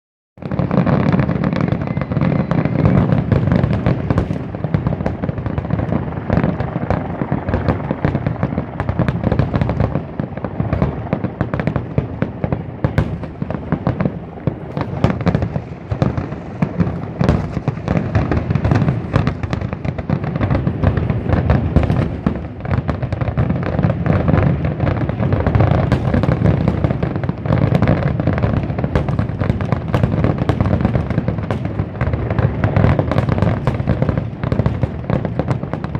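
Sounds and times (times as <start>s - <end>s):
fireworks booms and cracks: 0.4s - 35.9s.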